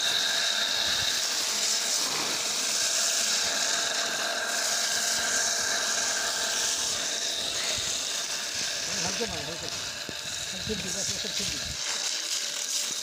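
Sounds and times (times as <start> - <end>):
water gushing from hose onto road: 0.0 - 13.0.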